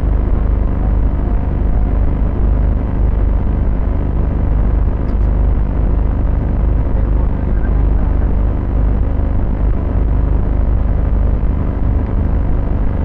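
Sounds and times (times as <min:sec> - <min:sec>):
constant hum: 0:00.0 - 0:13.0
loud low rumble: 0:00.0 - 0:13.0.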